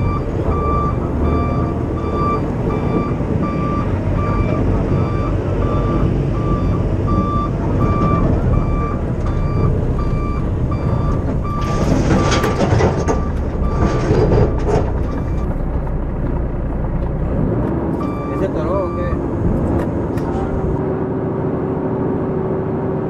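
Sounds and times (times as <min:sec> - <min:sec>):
truck backup alarm beeping: 0:00.0 - 0:15.6, 0:18.0 - 0:20.8
diesel truck engine running: 0:00.0 - 0:23.0.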